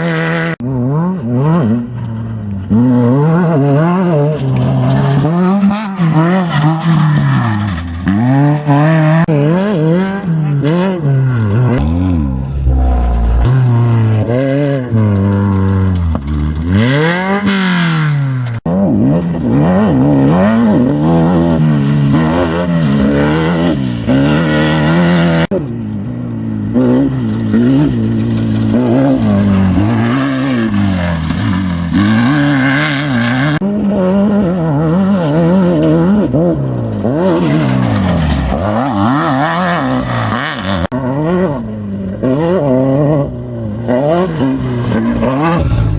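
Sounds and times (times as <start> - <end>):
race vehicle engines revving: 0.0 - 45.9.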